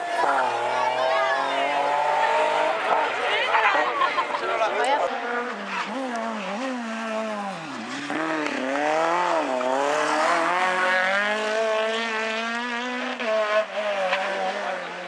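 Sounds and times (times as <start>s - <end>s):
rally car engine revving hard: 0.0s - 4.3s, 5.1s - 15.0s.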